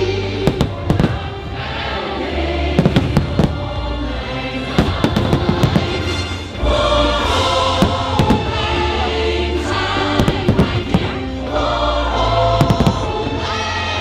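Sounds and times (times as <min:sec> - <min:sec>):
loud show music: 0:00.0 - 0:14.0
fireworks bangs and crackles: 0:00.2 - 0:02.0, 0:02.6 - 0:11.5, 0:12.4 - 0:14.0.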